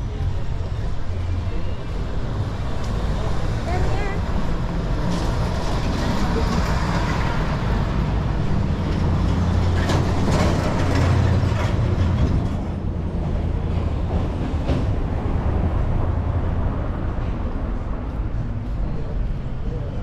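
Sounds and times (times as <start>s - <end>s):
street noise: 0.0s - 20.0s
vehicle engine rumble passing: 0.0s - 20.0s.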